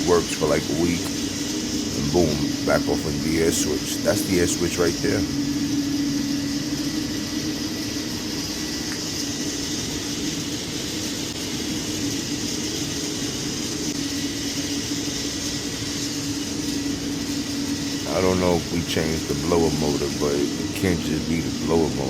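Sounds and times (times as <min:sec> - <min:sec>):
boiler room machinery droning: 0:00.0 - 0:22.0.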